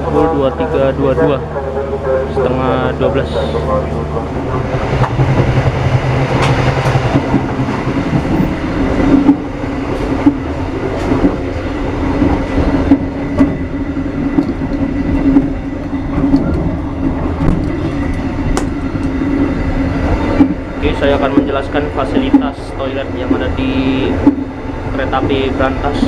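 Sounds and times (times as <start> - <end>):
rail joint clacks: 2.6 - 26.0
train wheels rumbling on rails: 2.9 - 26.0.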